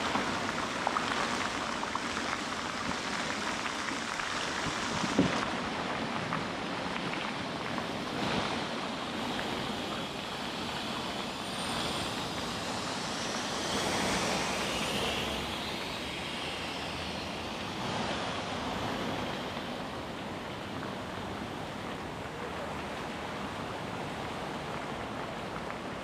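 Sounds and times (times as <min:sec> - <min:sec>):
fountain water splashing: 0:00.0 - 0:26.0.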